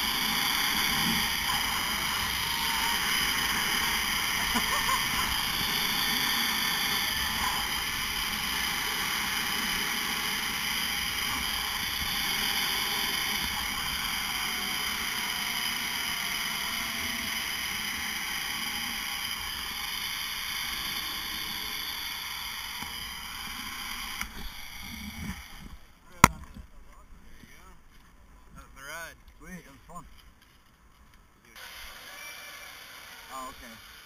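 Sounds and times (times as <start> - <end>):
zip line pulleys whirring: 0.0 - 25.9, 31.6 - 34.0.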